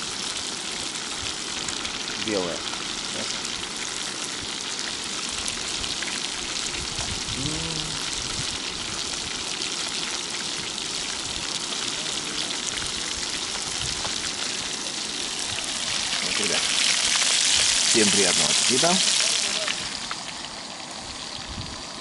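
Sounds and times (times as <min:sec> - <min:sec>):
fish sizzling in hot oil: 0:00.0 - 0:22.0.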